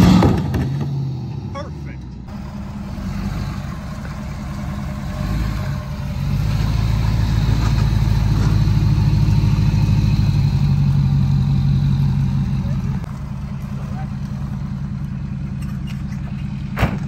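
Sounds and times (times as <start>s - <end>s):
pickup truck engine revving: 0.0s - 17.0s.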